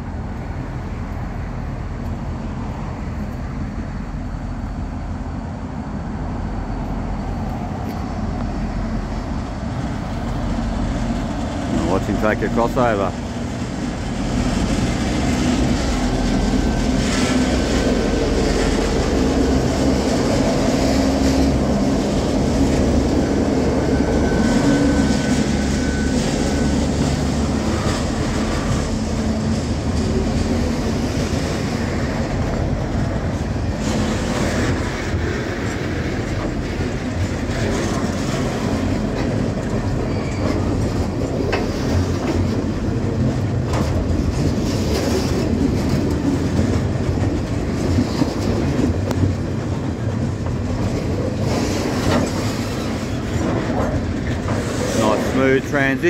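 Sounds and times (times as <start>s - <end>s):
diesel locomotive engines humming: 0.0s - 56.0s
train wheels clacking on rail joints: 8.0s - 56.0s.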